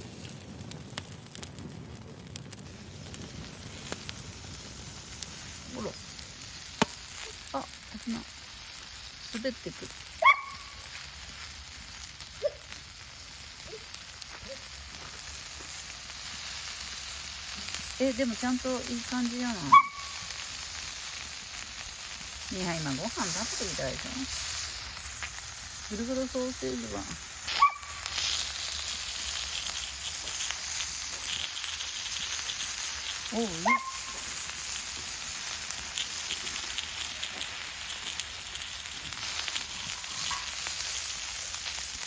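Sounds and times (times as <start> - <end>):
light crackles: 0.0 - 42.0
sausage sizzling on a grill: 0.0 - 42.0.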